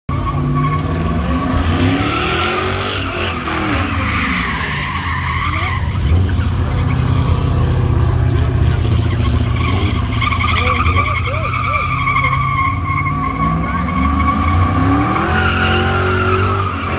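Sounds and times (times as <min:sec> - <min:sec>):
tires squealing: 0:00.1 - 0:16.9
car engine revving: 0:00.2 - 0:16.9.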